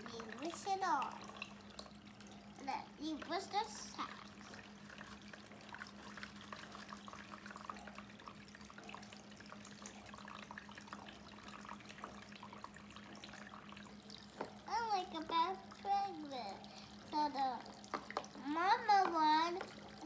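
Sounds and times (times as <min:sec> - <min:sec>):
faint splashes and drips: 0:00.0 - 0:20.0
water trickling into plastic basin: 0:00.0 - 0:20.0.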